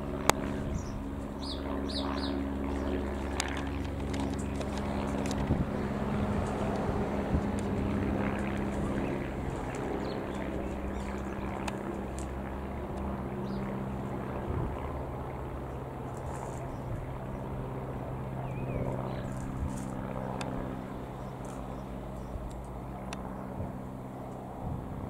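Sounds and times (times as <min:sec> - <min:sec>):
light aircraft engine droning: 0:00.0 - 0:25.0.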